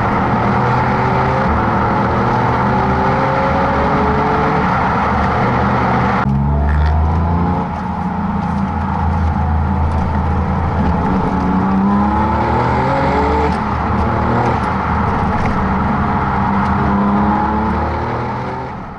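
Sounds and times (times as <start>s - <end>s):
car engine accelerating hard: 0.0s - 18.9s.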